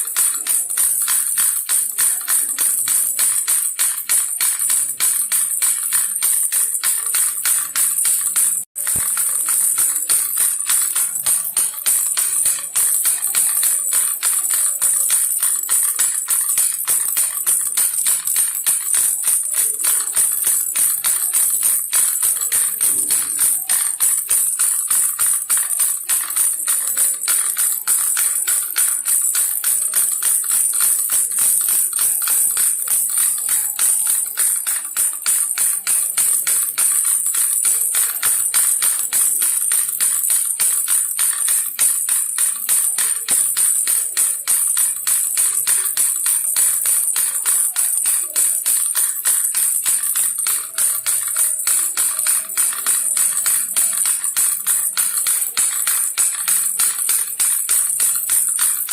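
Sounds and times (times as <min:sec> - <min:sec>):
baby rattle shaken: 0:00.0 - 0:58.9.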